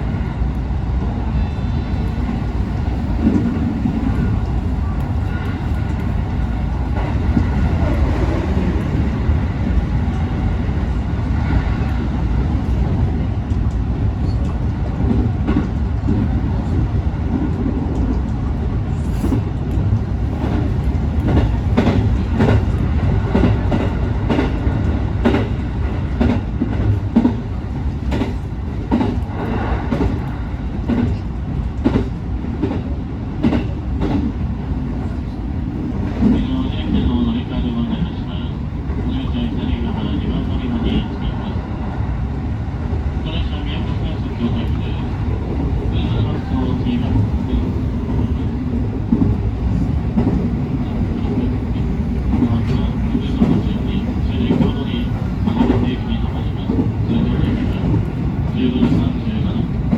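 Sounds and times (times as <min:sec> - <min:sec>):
train running gear rumble: 0:00.0 - 0:59.9.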